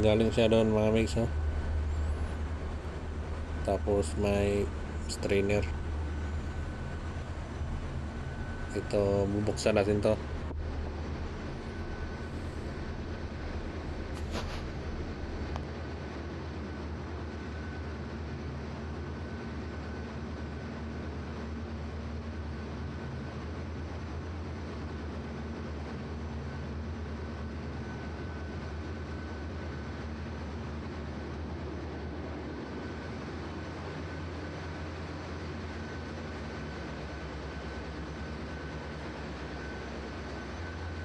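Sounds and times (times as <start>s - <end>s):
deep engine room hum: 0.0s - 41.0s
faint high whine: 0.0s - 41.0s.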